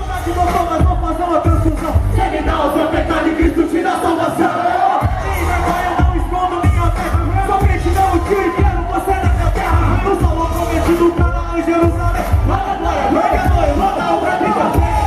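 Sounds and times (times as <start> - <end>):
music with bass beat: 0.0 - 4.0, 5.0 - 15.0
crowd noise: 0.0 - 15.0
voices singing: 0.0 - 15.0.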